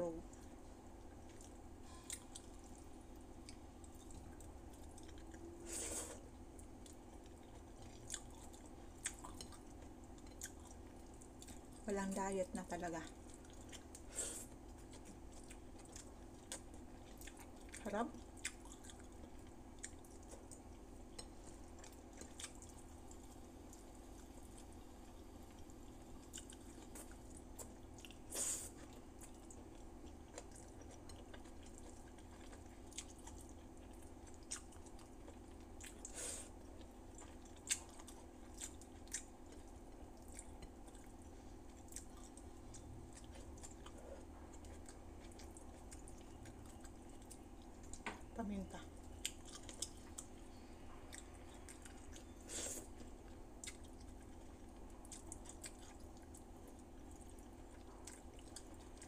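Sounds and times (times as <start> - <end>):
steady low hum: 0.0 - 59.0
person chewing food: 0.3 - 11.8, 12.7 - 48.3, 48.9 - 59.0.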